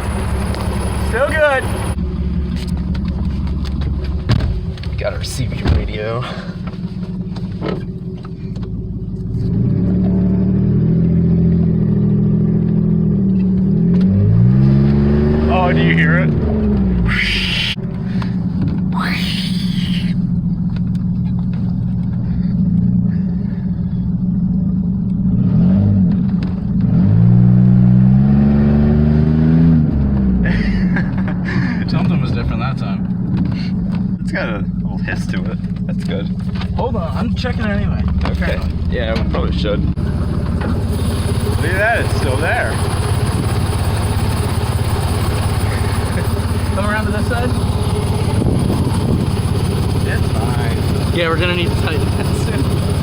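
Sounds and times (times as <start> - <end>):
pickup engine accelerating: 0.0 - 53.0.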